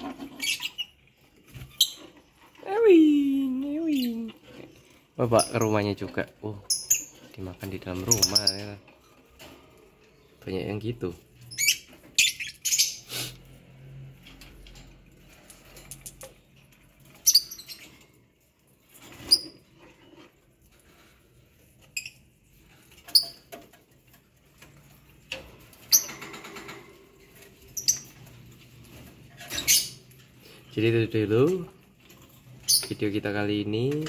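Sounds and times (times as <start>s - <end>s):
birds squeaking and chirping: 0.0s - 34.0s.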